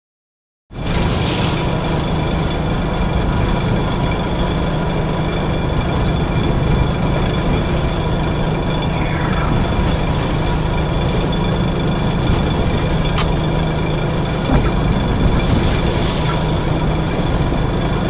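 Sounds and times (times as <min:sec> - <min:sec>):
boat engine running: 0:00.8 - 0:08.8, 0:10.1 - 0:18.0.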